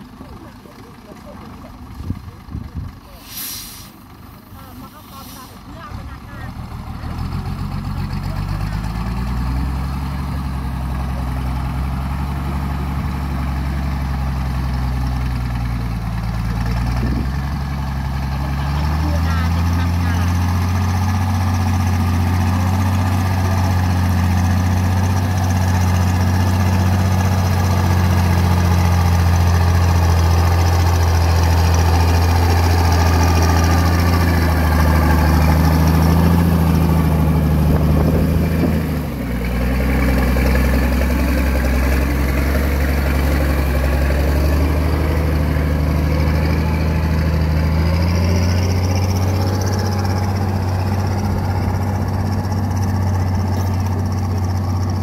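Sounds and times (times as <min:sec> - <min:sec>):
truck engine passing: 0:00.0 - 0:55.0.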